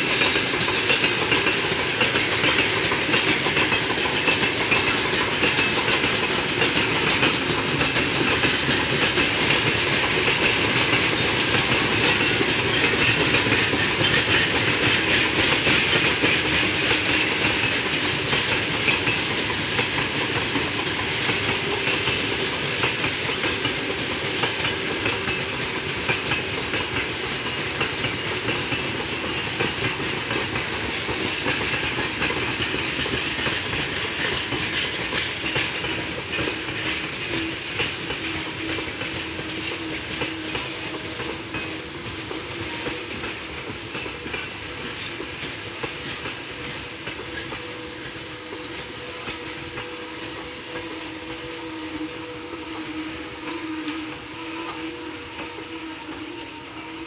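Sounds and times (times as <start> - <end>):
brakes hissing grind: 0.0 - 57.0
train wheels rumbling and clattering: 0.0 - 57.0.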